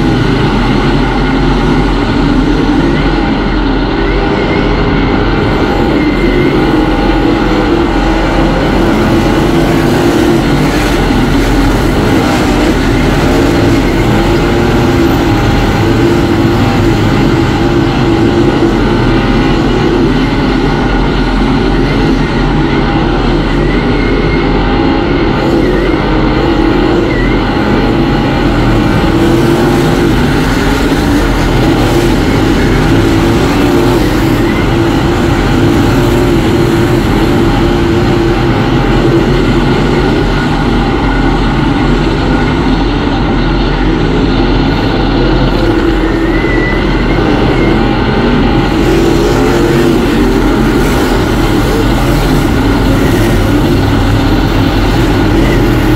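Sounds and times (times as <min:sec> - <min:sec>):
race car engine running hard: 0:00.0 - 0:55.9.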